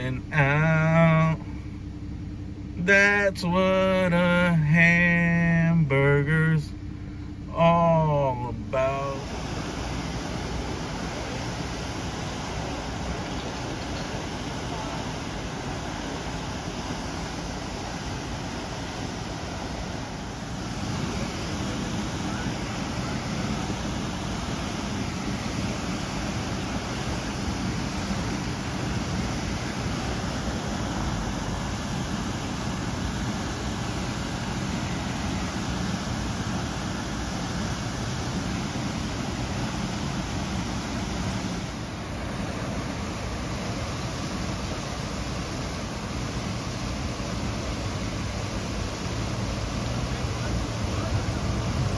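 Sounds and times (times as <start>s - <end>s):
water gushing from fire hydrant: 9.0s - 51.9s.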